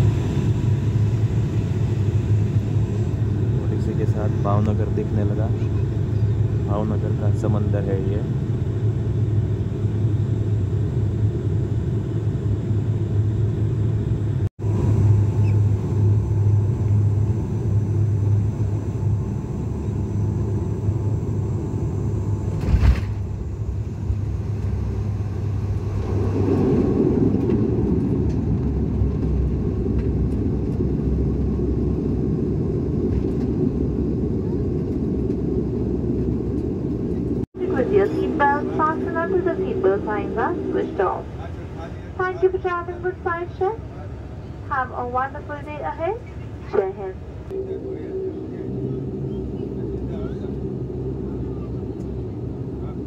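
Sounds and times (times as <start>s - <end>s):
propeller engine drone: 0.0s - 53.0s.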